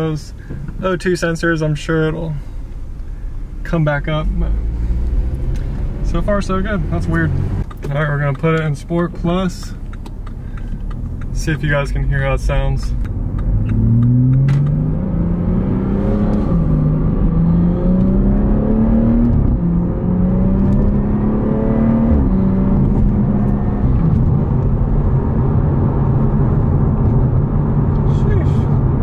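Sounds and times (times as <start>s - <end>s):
car engine accelerating through gears: 4.0s - 8.4s, 9.1s - 29.0s.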